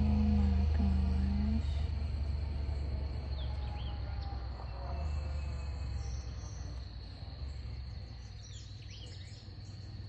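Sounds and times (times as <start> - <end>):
insects buzzing: 0.0 - 10.0
low rumble: 0.0 - 10.0.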